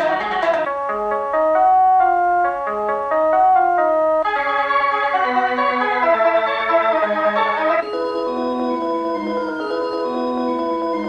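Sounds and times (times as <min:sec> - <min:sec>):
organ-like instrumental music: 0:00.0 - 0:11.0.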